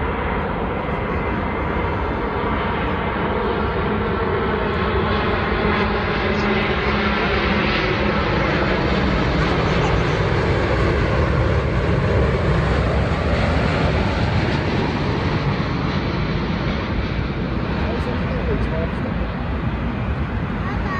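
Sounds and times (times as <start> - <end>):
jet engines roaring: 0.0 - 20.9.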